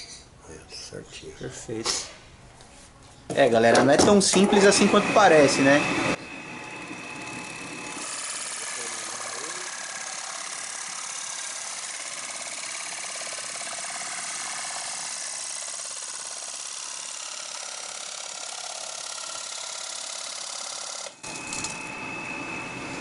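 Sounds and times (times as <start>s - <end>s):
metal lathe running: 4.3s - 23.0s.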